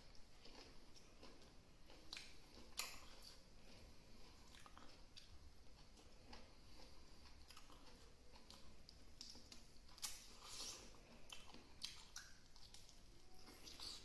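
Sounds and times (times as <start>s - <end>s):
soft chewing: 0.0s - 14.0s.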